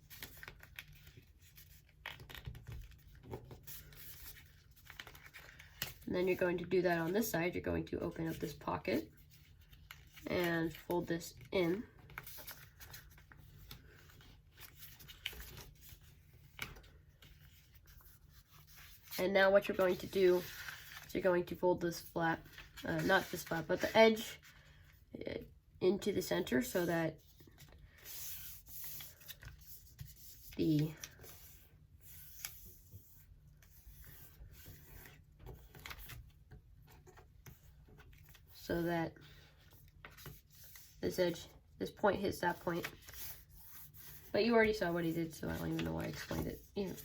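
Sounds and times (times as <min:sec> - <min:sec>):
paper rustling and crinkling: 0:00.0 - 0:06.3, 0:08.0 - 0:24.9, 0:27.2 - 0:38.6, 0:39.2 - 0:41.6, 0:42.4 - 0:47.0.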